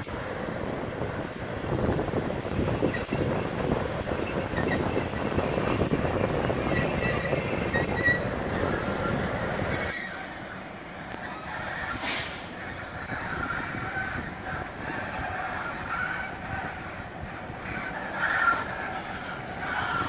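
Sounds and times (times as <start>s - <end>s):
thin wheel squeals: 2.3s - 20.0s.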